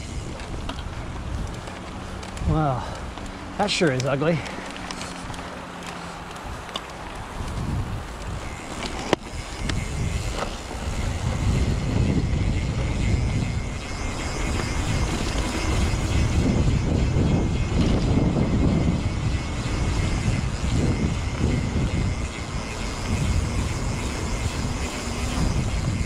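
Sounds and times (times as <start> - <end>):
bike tyres on dirt: 0.0 - 26.0
wind rumbling on microphone: 0.0 - 26.0.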